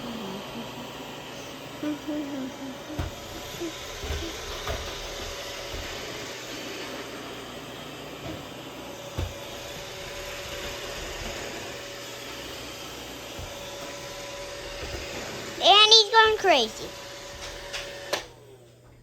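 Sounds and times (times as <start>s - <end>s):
robot vacuum whirring: 0.0s - 18.6s.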